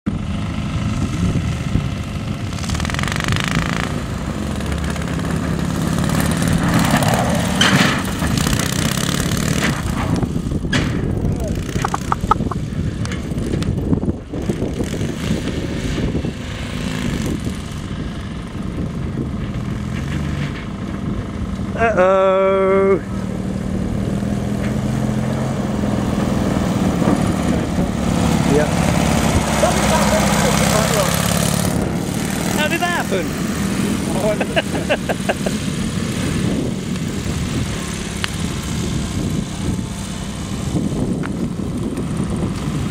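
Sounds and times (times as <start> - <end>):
distant buggy engine revving: 0.1 - 42.9.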